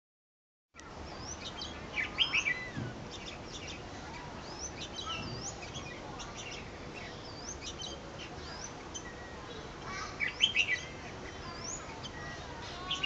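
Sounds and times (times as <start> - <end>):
birds chirping and whistling: 1.0 - 13.0.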